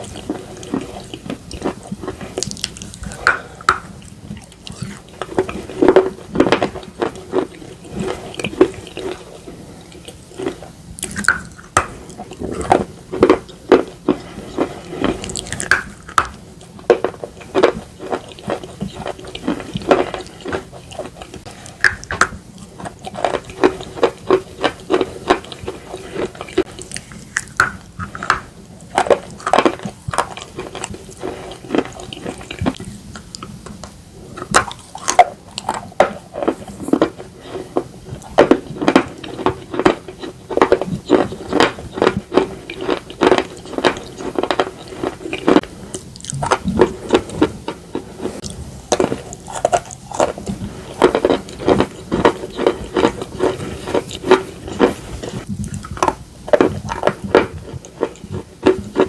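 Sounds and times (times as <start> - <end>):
crunching and chewing slate: 0.0 - 59.0.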